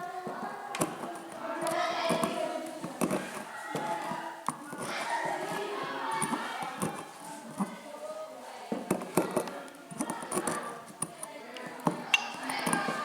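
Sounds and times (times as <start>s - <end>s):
indistinct background voices: 0.0s - 13.0s.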